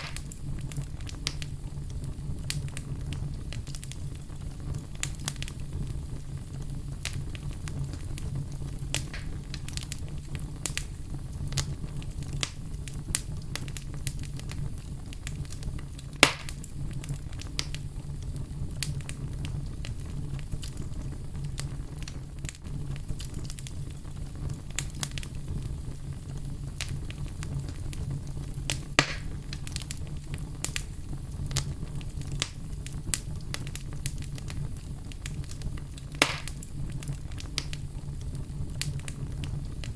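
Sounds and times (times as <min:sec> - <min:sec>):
fire crackling: 0:00.0 - 0:39.9
fire popping: 0:00.0 - 0:39.9.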